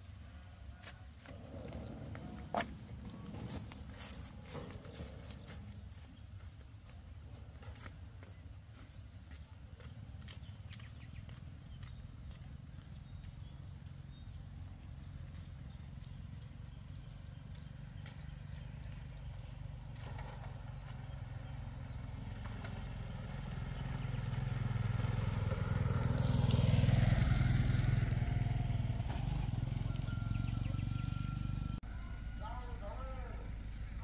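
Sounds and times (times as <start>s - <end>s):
tractor engine running: 1.2s - 34.0s.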